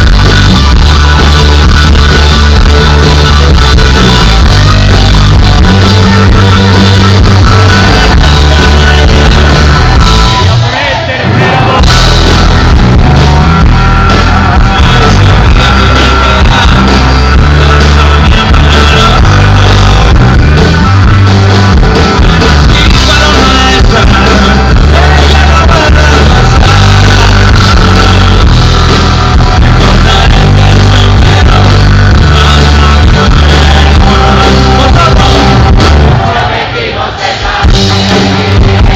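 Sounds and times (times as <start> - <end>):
person singing: 0.0 - 21.0, 21.9 - 38.9
bass line: 0.0 - 38.9
rock band playing live: 0.0 - 38.9.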